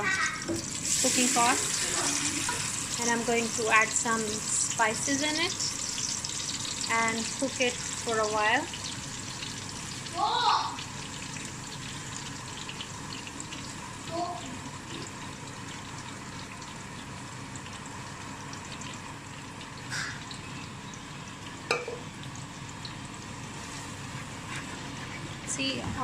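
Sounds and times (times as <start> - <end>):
oil sizzling in a pot: 0.0 - 26.0.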